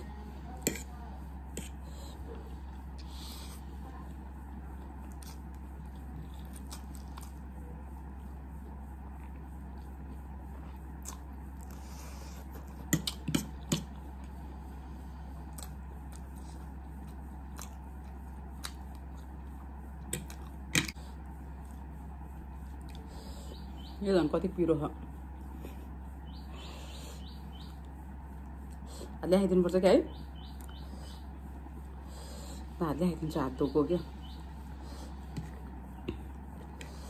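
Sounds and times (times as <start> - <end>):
quiet eating sounds: 0.0 - 37.0
steady low hum: 0.0 - 37.0.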